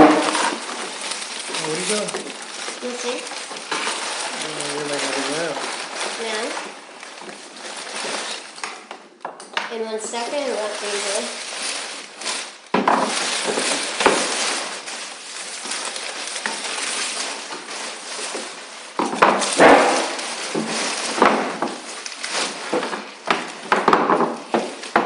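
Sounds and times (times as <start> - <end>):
wood scraping and shuffling: 0.0 - 8.9, 9.9 - 25.0.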